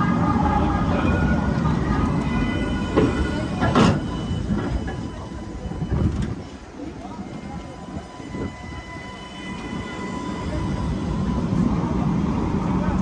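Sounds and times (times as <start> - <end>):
tram running on rails: 0.0 - 13.0.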